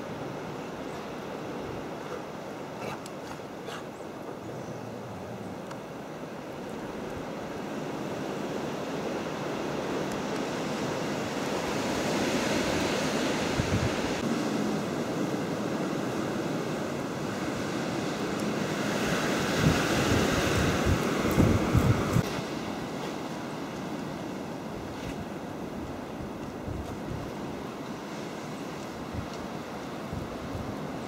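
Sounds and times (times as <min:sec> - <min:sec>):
blizzard wind on microphone: 0:04.4 - 0:31.0
wind gusts buffeting mic: 0:04.4 - 0:31.0.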